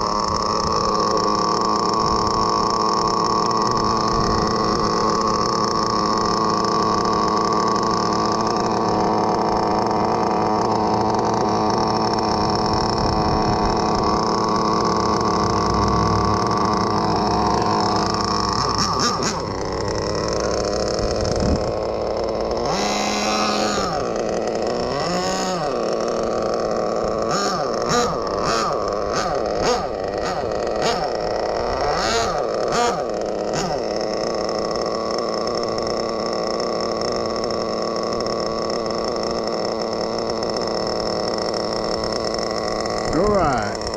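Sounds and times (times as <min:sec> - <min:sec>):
small nitro engine idling: 0:00.0 - 0:43.9.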